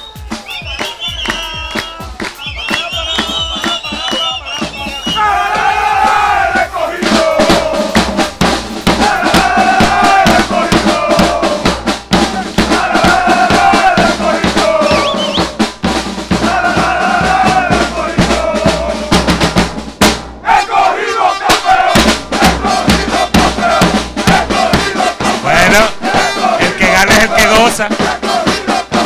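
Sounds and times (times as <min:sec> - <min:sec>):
percussion band drumming: 0:00.0 - 0:29.0.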